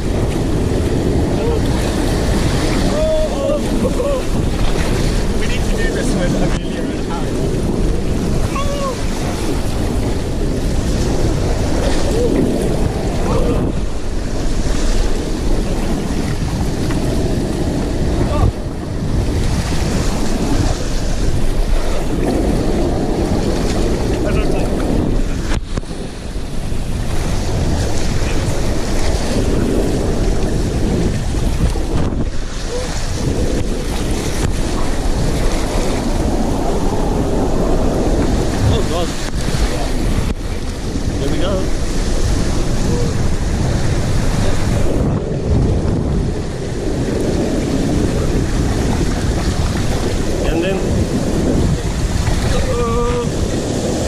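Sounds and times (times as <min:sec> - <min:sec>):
water rushing down slide: 0:00.0 - 0:54.0
wind buffeting microphone: 0:00.0 - 0:54.0.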